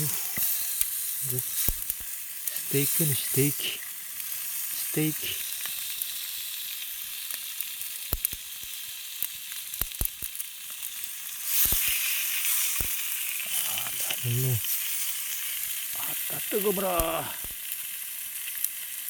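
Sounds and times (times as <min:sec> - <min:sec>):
meat sizzling on a hot stone: 0:00.0 - 0:19.0.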